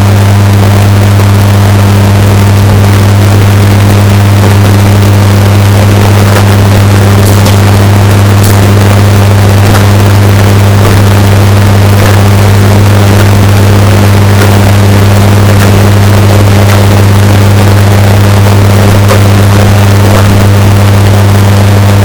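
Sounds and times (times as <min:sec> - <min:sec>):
washing machine hum: 0:00.0 - 0:22.0.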